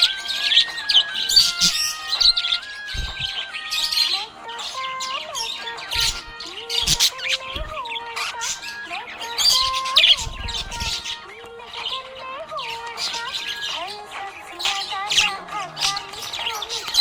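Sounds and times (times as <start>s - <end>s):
melodic tune: 0.0s - 15.8s
budgerigars chirping and chattering: 0.0s - 17.0s.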